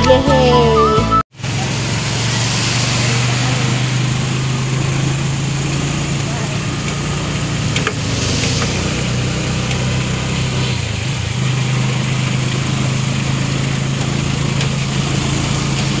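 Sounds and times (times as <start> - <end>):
car engine droning: 0.0 - 16.0
road and wind noise: 1.3 - 16.0.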